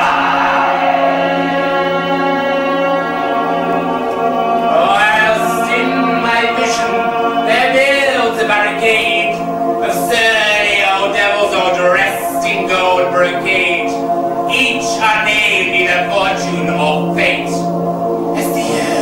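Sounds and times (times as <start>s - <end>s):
singing voice gliding: 0.0s - 19.0s
sustained held chord: 0.0s - 19.0s.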